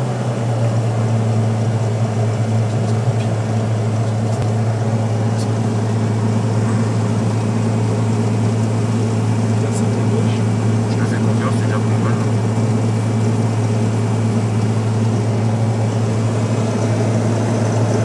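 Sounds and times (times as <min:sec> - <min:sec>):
light airplane engine and propeller: 0:00.0 - 0:18.0.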